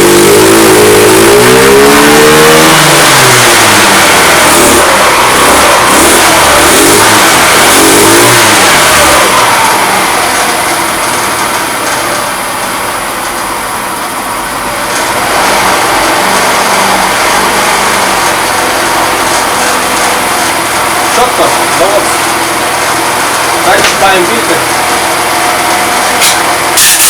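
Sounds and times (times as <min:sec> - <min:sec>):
moped engine revving: 0:00.0 - 0:27.0.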